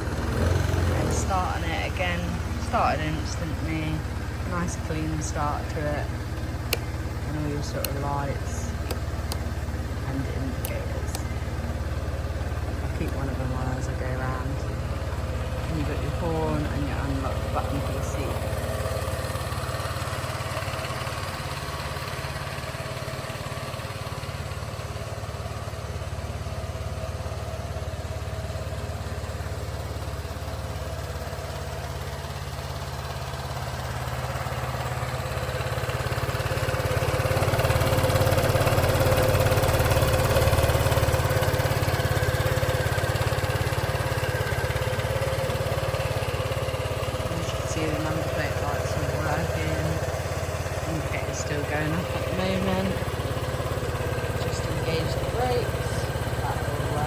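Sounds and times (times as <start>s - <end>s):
scooter engine idling: 0.0s - 57.0s.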